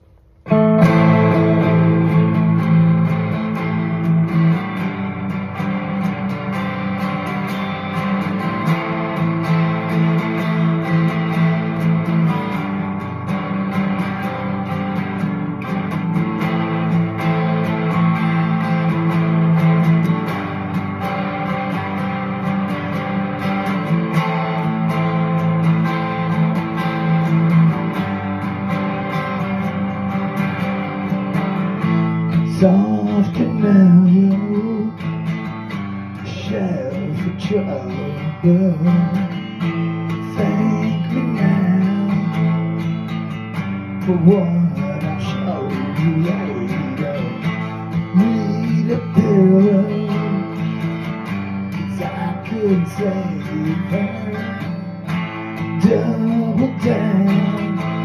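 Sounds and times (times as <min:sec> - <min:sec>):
strummed guitar chords: 0:00.0 - 0:58.0.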